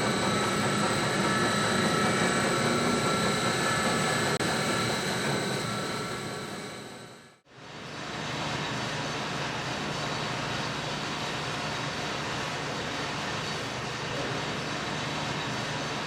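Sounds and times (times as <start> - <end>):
production line machinery noise: 0.0 - 16.0.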